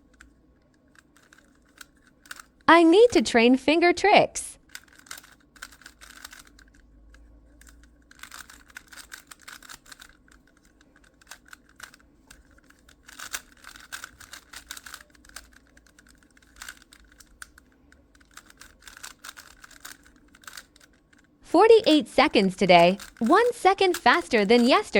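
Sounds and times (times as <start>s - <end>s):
plastic cube layers clicking: 0.0s - 2.7s, 4.6s - 24.9s.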